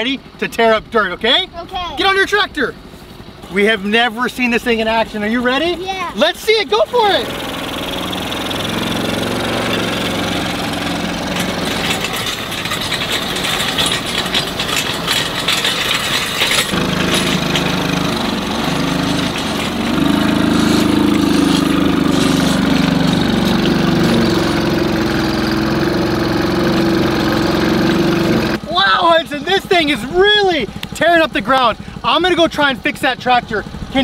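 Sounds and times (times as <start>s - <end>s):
small gas engine under load: 2.8s - 34.0s.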